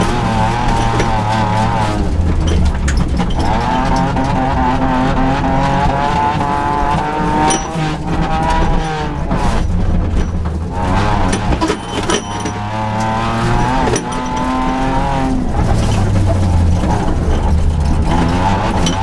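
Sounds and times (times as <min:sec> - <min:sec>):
gravel clicks and knocks: 0:00.0 - 0:19.0
rally car engine revving: 0:00.0 - 0:19.0.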